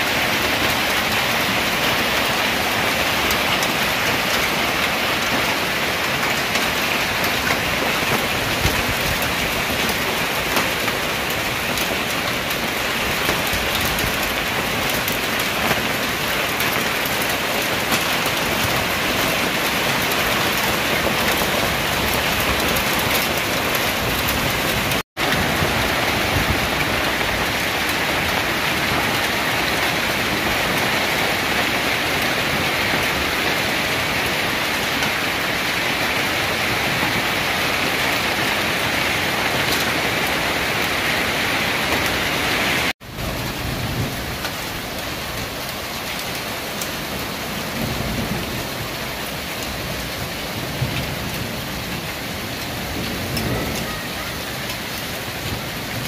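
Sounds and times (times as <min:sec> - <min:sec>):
hail and rain pelting down: 0:00.0 - 0:56.0.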